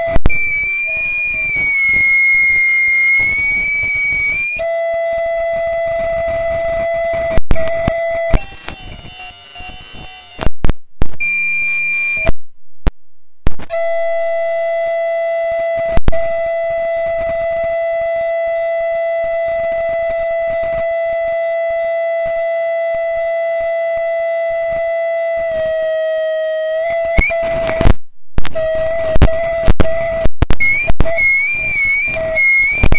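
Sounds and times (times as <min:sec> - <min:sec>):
audio feedback tone: 0:00.0 - 0:32.9.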